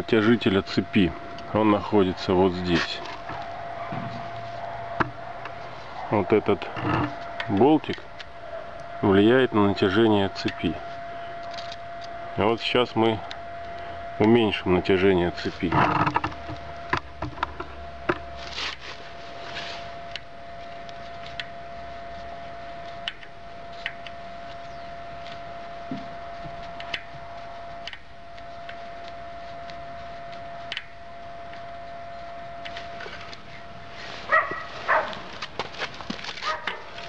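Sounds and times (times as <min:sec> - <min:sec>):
high-pitched hum: 0:00.0 - 0:37.0.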